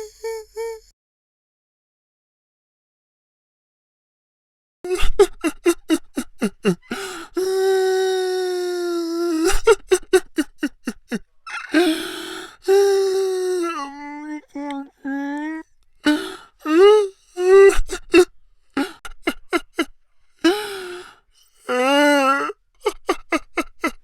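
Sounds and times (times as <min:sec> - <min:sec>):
man sobbing and wailing: 0:00.0 - 0:00.9, 0:04.9 - 0:24.0.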